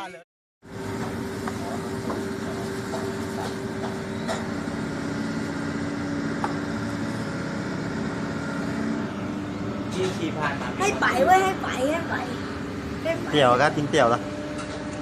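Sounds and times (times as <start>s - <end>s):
vehicle engine humming: 0.7s - 15.0s.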